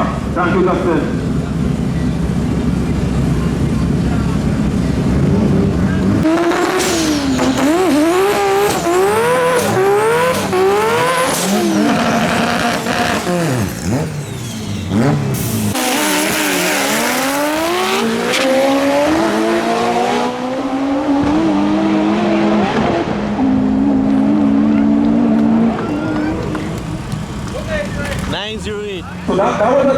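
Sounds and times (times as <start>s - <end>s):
race car engine accelerating: 0.0s - 28.3s.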